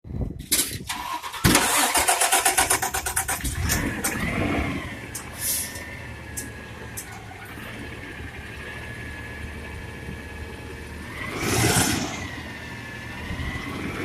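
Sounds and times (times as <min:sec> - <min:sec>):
truck engine starting and pulsing: 0:00.1 - 0:14.0
engine whine: 0:00.9 - 0:14.0.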